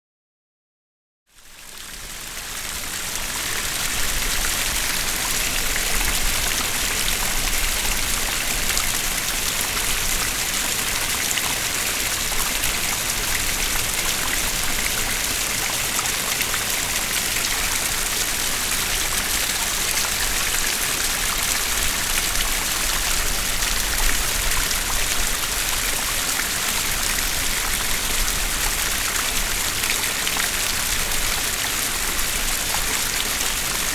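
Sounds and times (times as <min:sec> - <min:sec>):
streams of running water: 0:01.3 - 0:33.9.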